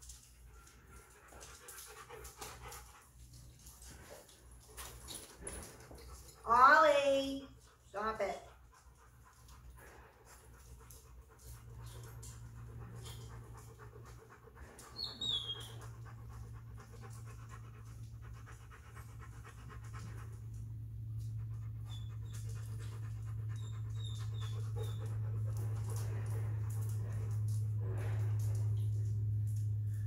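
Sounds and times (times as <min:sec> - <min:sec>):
dog panting: 0:00.0 - 0:29.3
low hum: 0:00.0 - 0:30.0.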